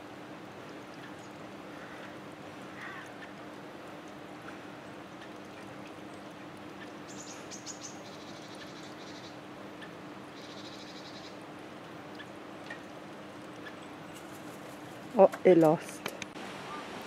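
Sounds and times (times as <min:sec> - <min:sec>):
steady low street hum: 0:00.0 - 0:17.0.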